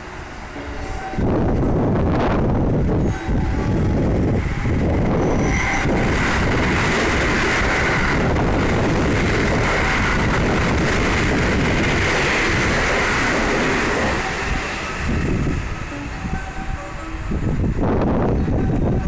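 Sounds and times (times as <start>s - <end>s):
electric train running past: 0.0s - 19.0s.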